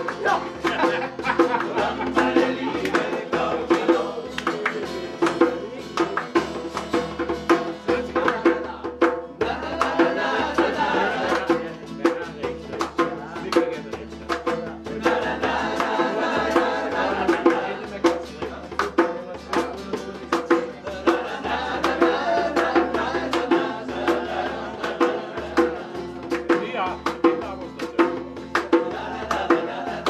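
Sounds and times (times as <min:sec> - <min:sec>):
acoustic guitars strummed: 0:00.0 - 0:30.0
hand drum beaten: 0:00.0 - 0:30.0
men singing together: 0:00.0 - 0:30.0.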